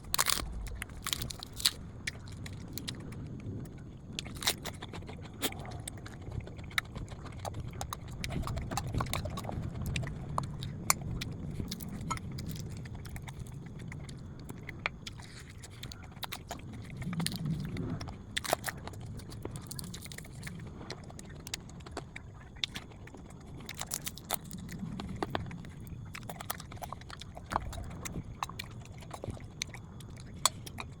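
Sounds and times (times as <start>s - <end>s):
low background rumble: 0.0s - 31.0s
person chewing: 0.0s - 31.0s.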